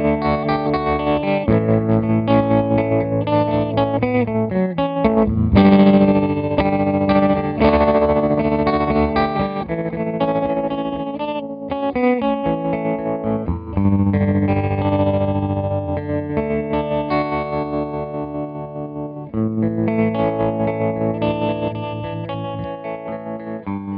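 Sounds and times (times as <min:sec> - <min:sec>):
electric guitar chords pulsing: 0:00.0 - 0:23.9.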